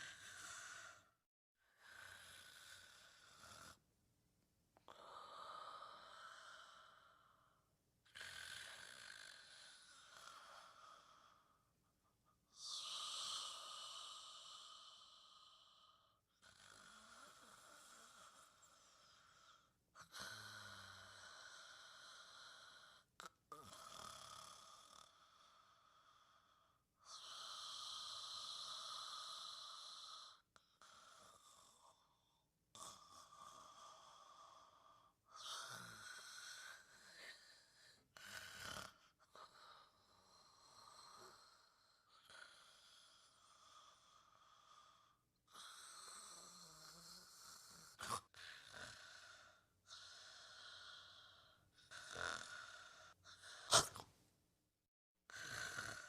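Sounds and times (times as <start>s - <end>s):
gentle snoring: 0.0s - 3.8s, 4.8s - 11.6s, 12.5s - 54.2s, 55.3s - 56.0s.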